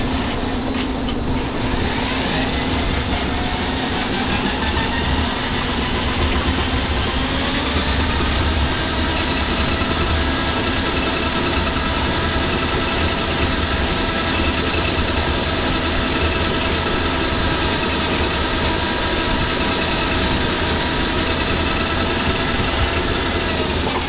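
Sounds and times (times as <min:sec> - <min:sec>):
electric drain auger humming: 0:01.5 - 0:24.0.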